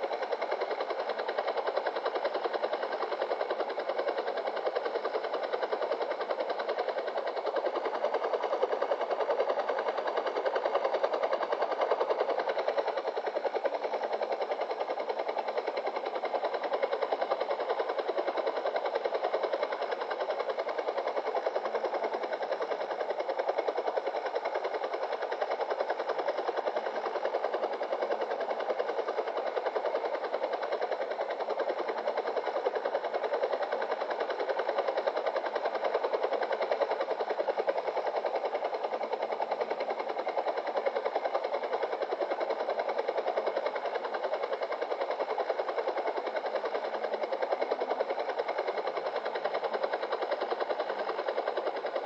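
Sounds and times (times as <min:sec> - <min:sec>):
mechanical whirring with flutter: 0:00.0 - 0:52.0.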